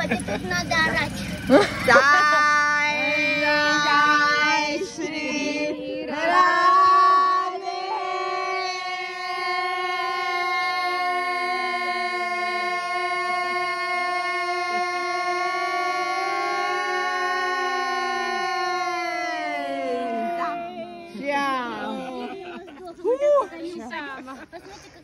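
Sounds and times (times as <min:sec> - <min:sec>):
voices singing: 0:00.0 - 0:24.0.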